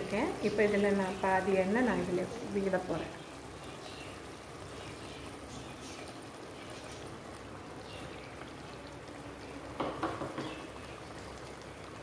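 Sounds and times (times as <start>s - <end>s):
pot bubbling: 0.0s - 12.0s.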